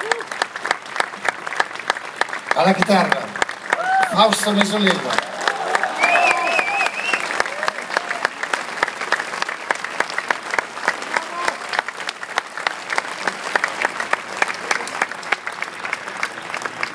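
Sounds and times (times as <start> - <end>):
crowd applauding: 0.0 - 16.9.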